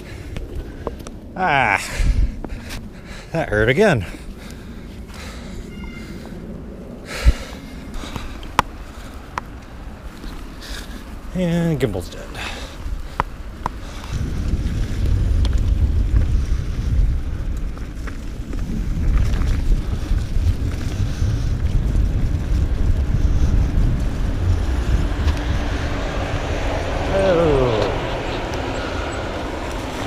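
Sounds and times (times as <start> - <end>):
bike rolling on snowy trail: 0.0 - 30.0
wind buffeting microphone: 0.0 - 30.0.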